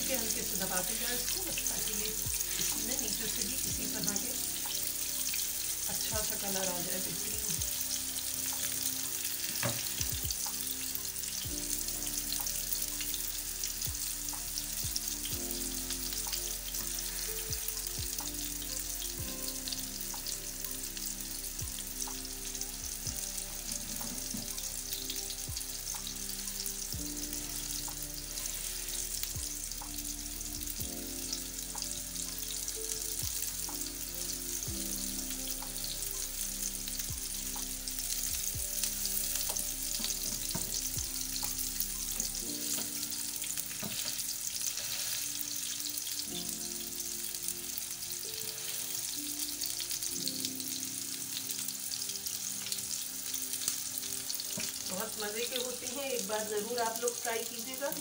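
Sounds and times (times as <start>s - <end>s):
patties sizzling in hot oil: 0.0s - 58.0s.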